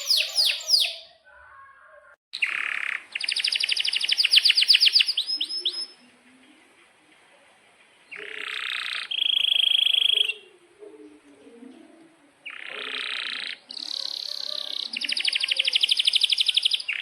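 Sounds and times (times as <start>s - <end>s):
canary singing trills: 0.0s - 6.2s, 8.0s - 10.7s, 11.6s - 17.0s.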